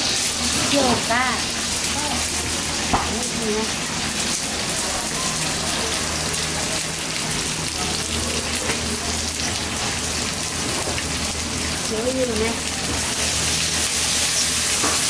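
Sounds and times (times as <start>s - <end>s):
gas burner hum: 0.0s - 15.0s
vegetables sizzling in a wok: 0.0s - 15.0s.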